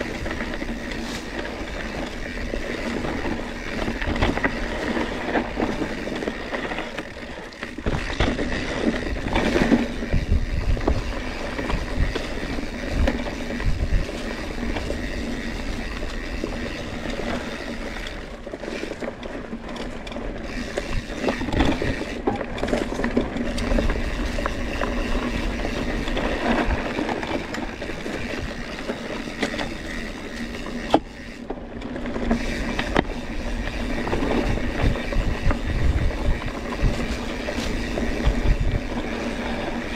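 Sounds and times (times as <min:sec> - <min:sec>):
bike rattling over rough ground: 0:00.0 - 0:39.9
bike tyres on dirt: 0:00.0 - 0:39.9
wind rumbling on microphone: 0:00.0 - 0:39.9.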